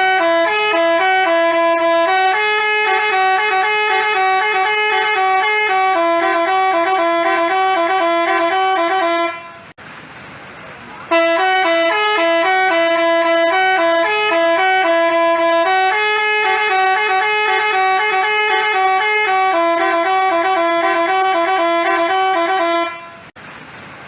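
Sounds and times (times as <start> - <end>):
bus horn playing a melody: 0.0 - 9.8, 11.1 - 23.4.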